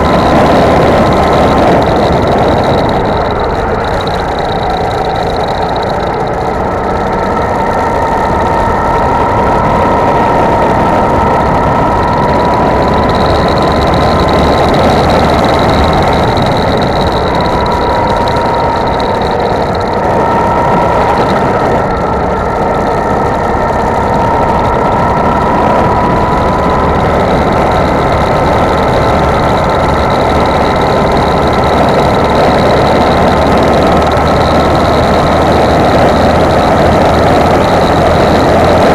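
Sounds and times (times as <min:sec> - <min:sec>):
go-kart engine running: 0:00.0 - 0:38.9
steady rushing noise: 0:00.0 - 0:38.9.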